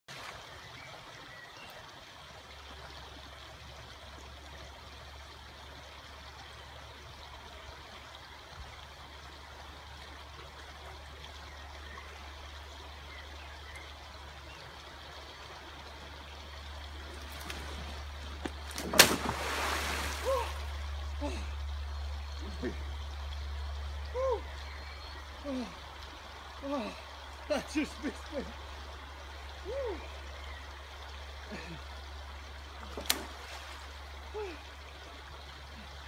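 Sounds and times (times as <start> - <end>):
river water flowing: 0.1 - 36.0.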